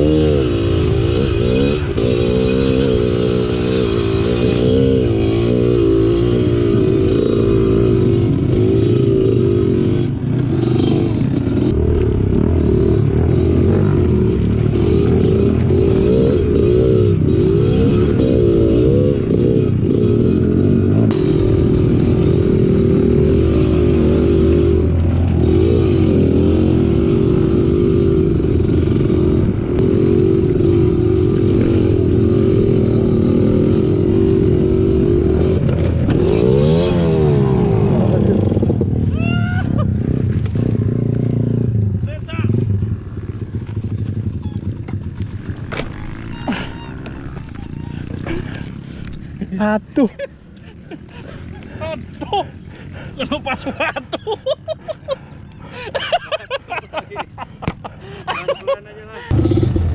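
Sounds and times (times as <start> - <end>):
motorcycle engine revving: 0.0 - 56.8, 59.2 - 59.9.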